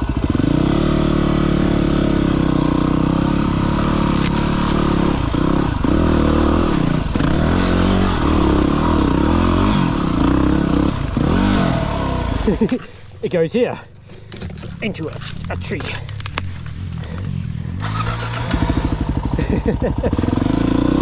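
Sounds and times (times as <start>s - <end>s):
dirt bike engine revving: 0.4s - 19.4s.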